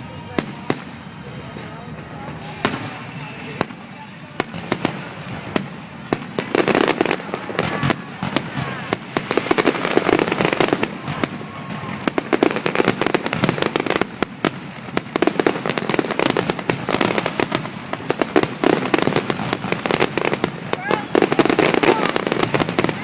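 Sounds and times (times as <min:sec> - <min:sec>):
fireworks bursting: 0:00.0 - 0:23.0
fireworks crackling: 0:00.0 - 0:23.0
fireworks whistle: 0:00.0 - 0:23.0.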